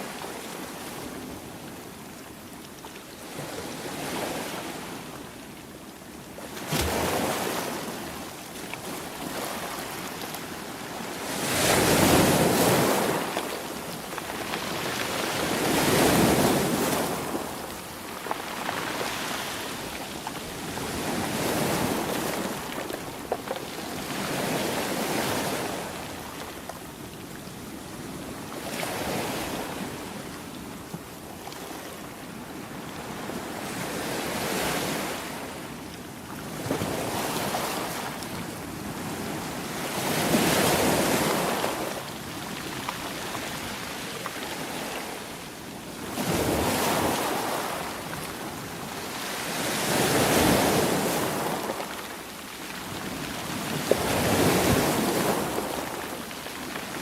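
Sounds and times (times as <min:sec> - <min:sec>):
ocean waves breaking on shore: 0:06.4 - 0:30.5, 0:31.5 - 0:57.0.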